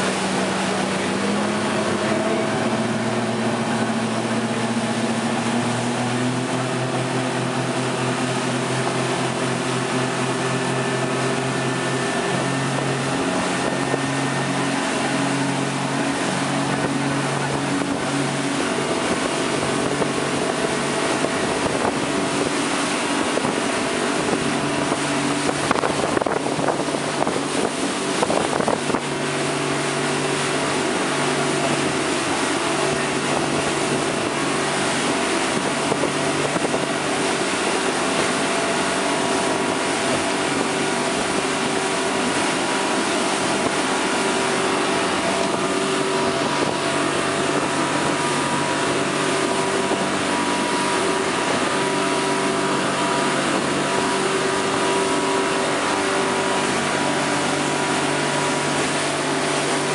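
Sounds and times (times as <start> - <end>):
speedboat engine drone: 0.0 - 59.9
water and spray rushing: 0.0 - 59.9.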